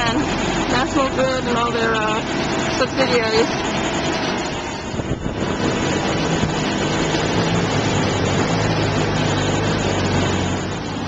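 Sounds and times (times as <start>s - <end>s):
outdoor noise: 0.0s - 11.0s
truck engine running: 0.0s - 11.0s.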